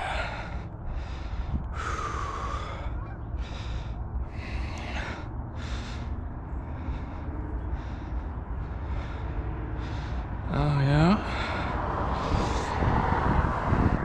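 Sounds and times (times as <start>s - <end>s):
person breathing hard: 0.0s - 10.5s, 11.2s - 14.0s
wind buffeting microphone: 0.0s - 14.0s.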